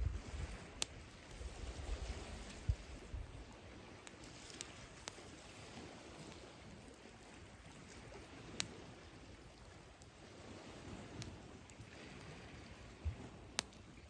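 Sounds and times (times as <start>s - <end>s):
campfire crackling: 0.0s - 14.0s
low rumble of surf: 0.0s - 14.0s
sea waves washing: 0.0s - 14.0s.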